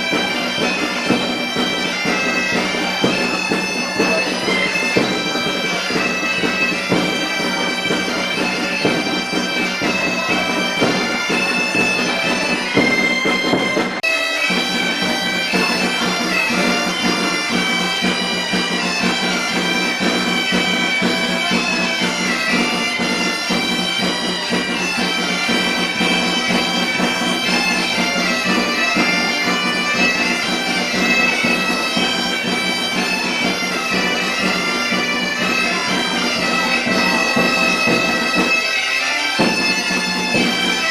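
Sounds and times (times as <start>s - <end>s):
bagpipe melody with drone: 0.0s - 40.9s.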